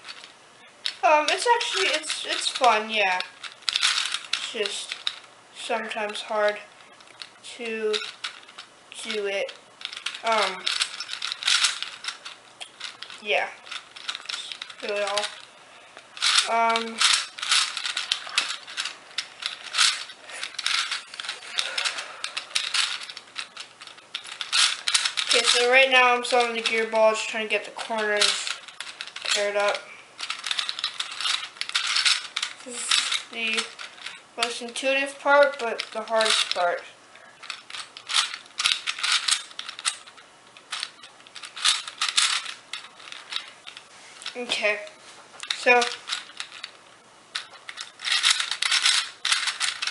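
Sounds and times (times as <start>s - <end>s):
plastic puzzle clicking and clacking: 0.0s - 49.9s.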